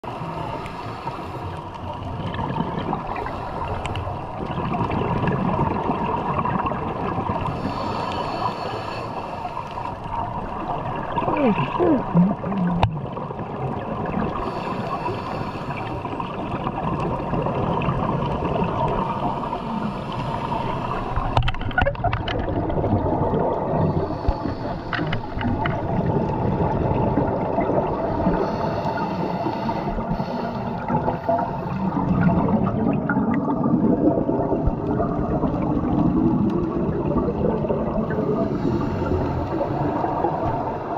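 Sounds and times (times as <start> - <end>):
underwater water rushing: 0.0 - 40.9
regulator bubbles gurgling: 1.4 - 40.9.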